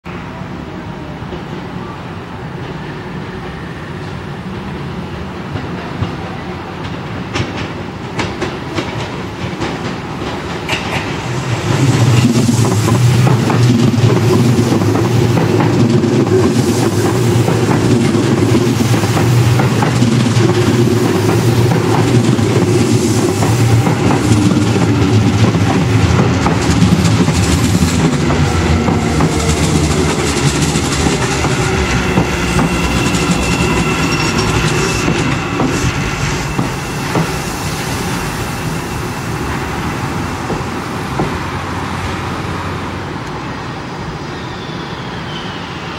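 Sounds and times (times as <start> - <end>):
train wheels clacking: 2.6 - 42.0.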